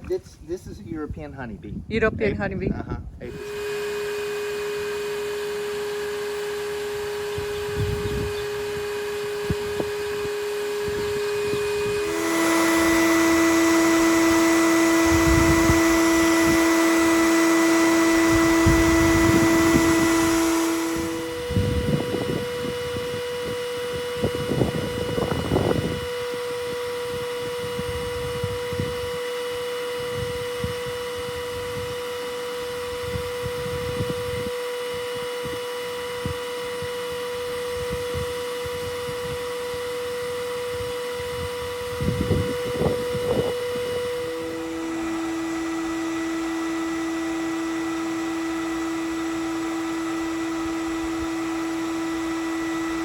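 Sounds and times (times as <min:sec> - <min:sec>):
steady mechanical hum: 0:00.0 - 0:53.0.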